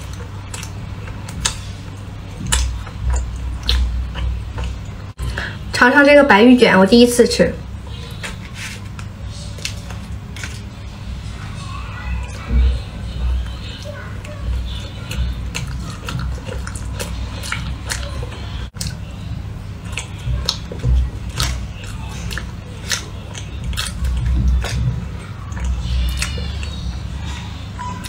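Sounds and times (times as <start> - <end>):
chewing soft food: 0.0 - 5.5, 7.7 - 28.0.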